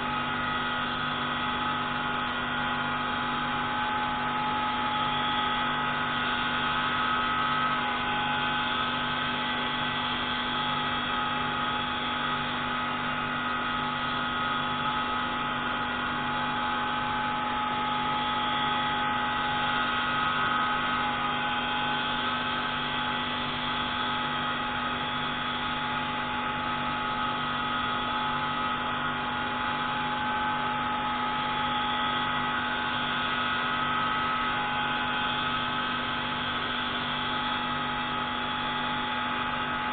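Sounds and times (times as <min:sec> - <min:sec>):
pneumatic grinding tool whine: 0:00.0 - 0:39.9.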